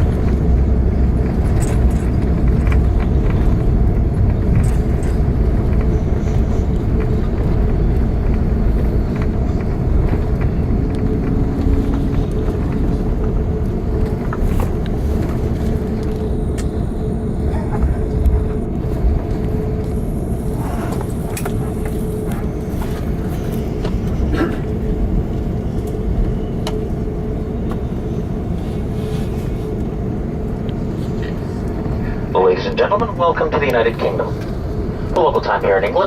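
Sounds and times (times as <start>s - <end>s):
low rumble of engines and wheels: 0.0s - 36.0s.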